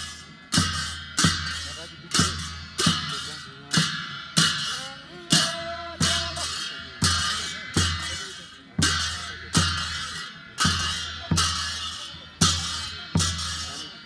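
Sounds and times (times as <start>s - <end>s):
cymbals clashing: 0.0s - 14.0s.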